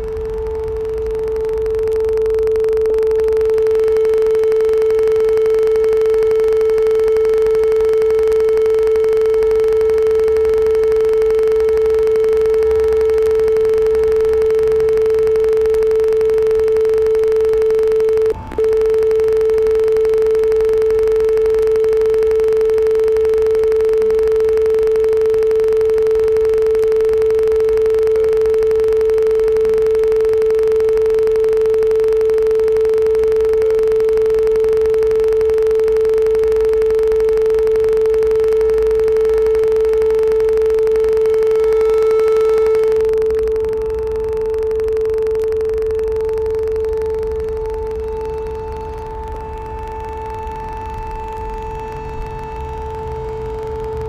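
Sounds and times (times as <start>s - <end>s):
faint low rumble: 0.0s - 54.0s
loud pure tone: 0.0s - 54.0s.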